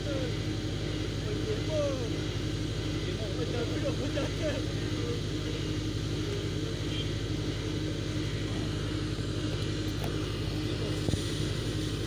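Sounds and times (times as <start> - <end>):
fire engine idling: 0.0 - 12.0.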